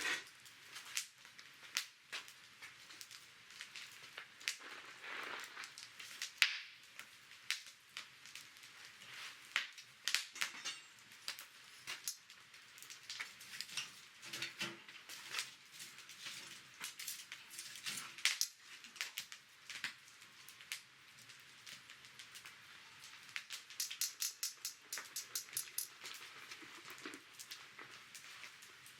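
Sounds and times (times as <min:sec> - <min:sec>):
campfire crackling and popping: 0:00.0 - 0:28.9
quiet fire hiss: 0:00.0 - 0:28.9.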